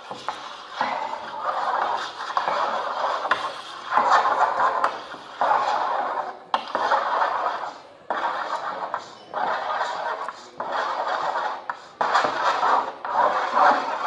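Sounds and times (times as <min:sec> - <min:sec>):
drawing strokes scratching on paper: 0:00.0 - 0:14.0.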